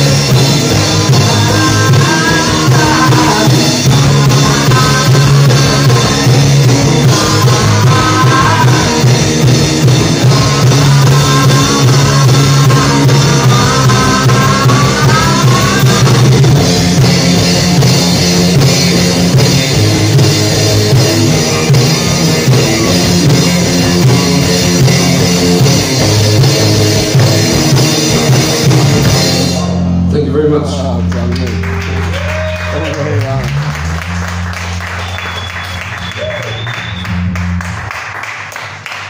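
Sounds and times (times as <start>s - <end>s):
electric guitar lead line: 0.0s - 37.9s
live rock band playing: 0.0s - 39.0s.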